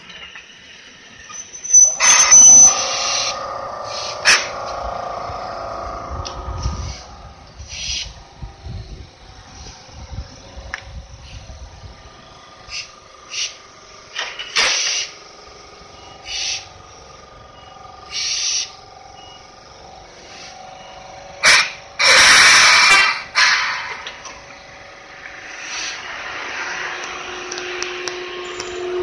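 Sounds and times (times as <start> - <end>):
tram humming: 0.0 - 29.0.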